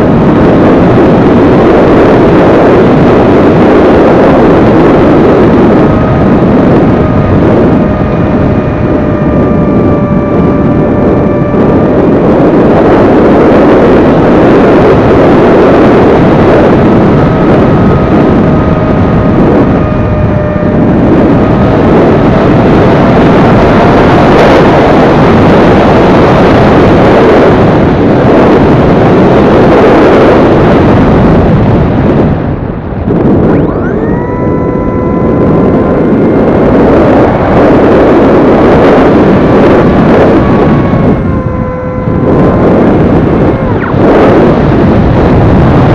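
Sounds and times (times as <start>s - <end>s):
electric motor and propeller whine: 0.0s - 45.9s
heavy wind rush: 0.0s - 45.9s.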